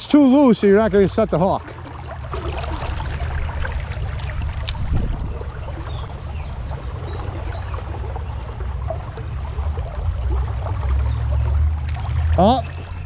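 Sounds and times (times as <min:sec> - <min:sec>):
river water rippling: 0:00.0 - 0:13.0.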